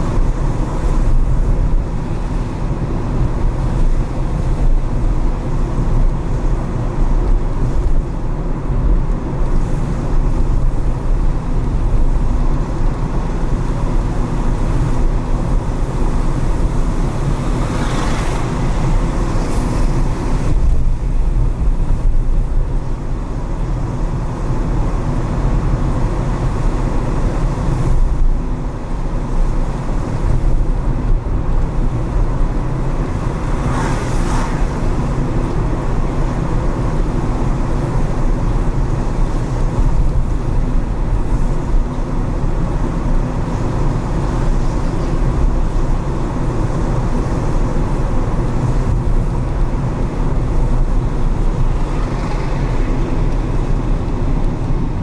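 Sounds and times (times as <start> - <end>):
engine and road rumble: 0.0 - 55.0
hiss of tyres on wet road: 9.4 - 28.2, 29.0 - 55.0.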